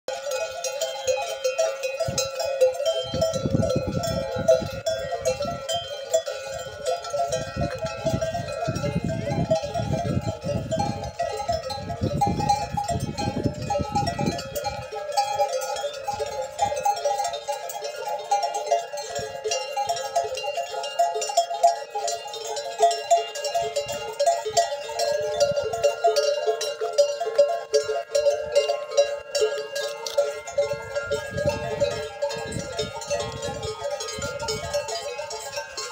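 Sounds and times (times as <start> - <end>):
camel bells jangling: 0.1 - 35.9.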